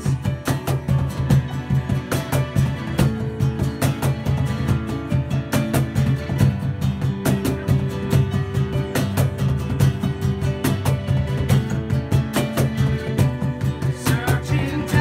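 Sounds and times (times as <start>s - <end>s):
acoustic guitar strumming: 0.0s - 15.0s
cajon beat: 0.0s - 15.0s.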